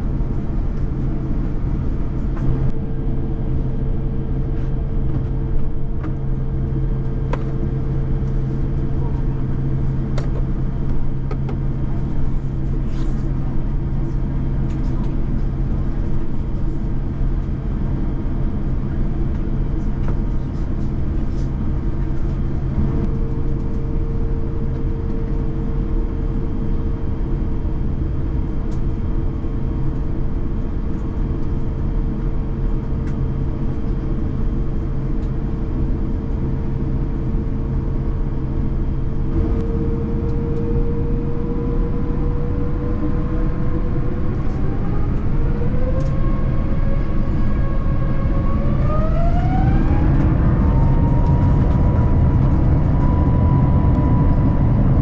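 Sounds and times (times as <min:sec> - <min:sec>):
airliner cabin engine hum: 0:00.0 - 0:55.0.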